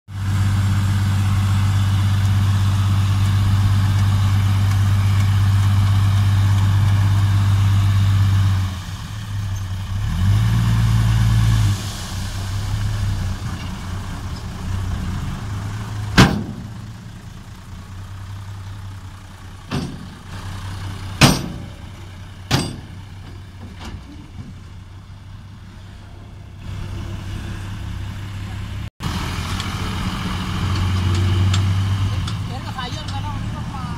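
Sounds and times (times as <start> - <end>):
diesel truck engine running: 0.1 - 33.9.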